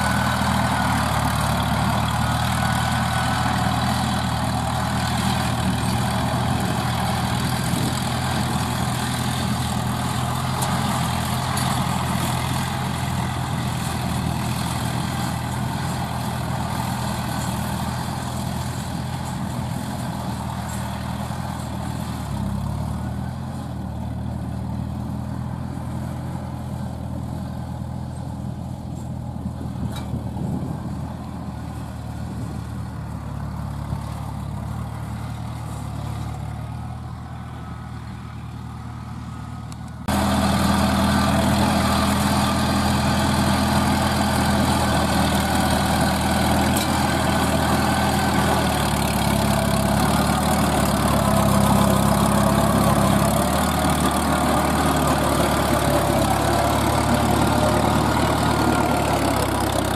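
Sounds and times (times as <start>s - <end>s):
tiller engine running: 0.0s - 59.9s.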